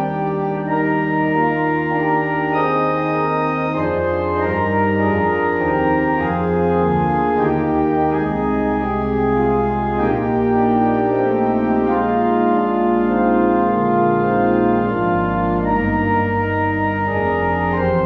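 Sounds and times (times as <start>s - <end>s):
church organ playing chords: 0.0s - 18.0s.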